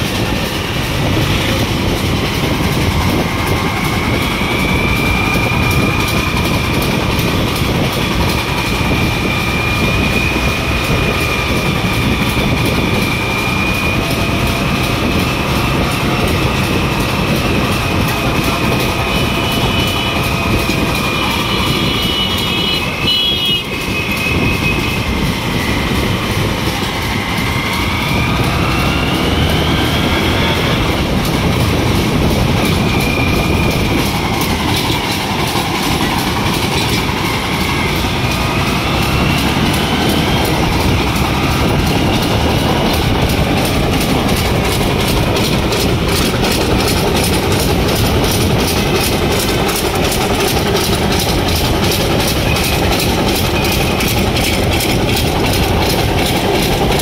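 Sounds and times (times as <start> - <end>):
rising squeals: 0.0 - 57.0
train rumbling and rattling: 0.0 - 57.0
wheels clickety-clack: 0.0 - 57.0.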